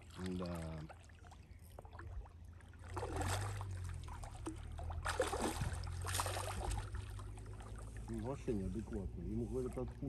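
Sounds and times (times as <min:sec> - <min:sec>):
fish splashing at water surface: 0:00.0 - 0:08.4.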